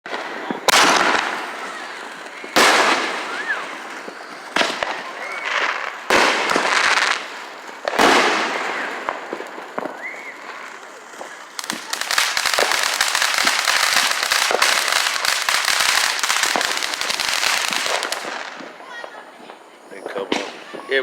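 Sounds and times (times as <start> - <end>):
fireworks bangs: 0.1 - 21.0
small firework pops: 0.1 - 21.0.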